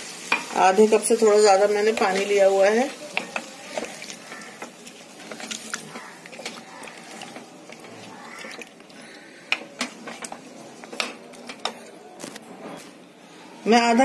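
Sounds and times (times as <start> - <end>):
wooden spoon stirring food in pan: 0.0 - 12.0.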